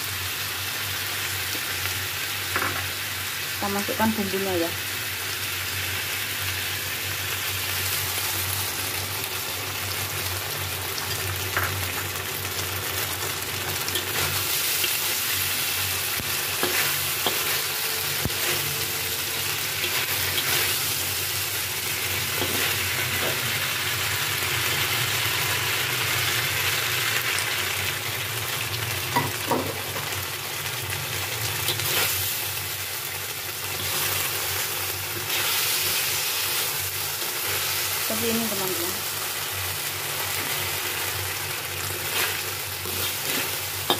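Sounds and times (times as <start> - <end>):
food sizzling in a wok: 0.0 - 43.9.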